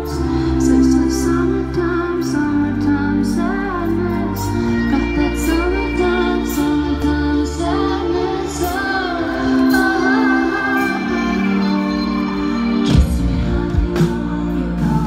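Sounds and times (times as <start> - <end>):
live pop band playing: 0.0 - 15.0
woman singing: 0.0 - 15.0.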